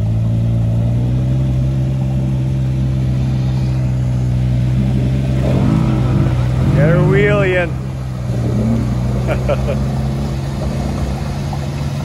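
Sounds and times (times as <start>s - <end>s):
off-road vehicle engine droning: 0.0s - 12.0s.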